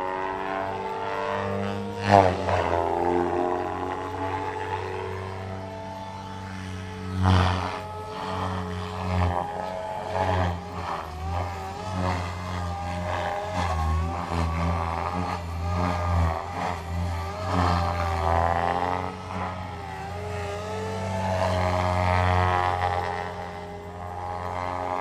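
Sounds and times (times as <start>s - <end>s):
electric motor whine: 0.0s - 25.0s
helicopter rotor drone: 0.0s - 25.0s.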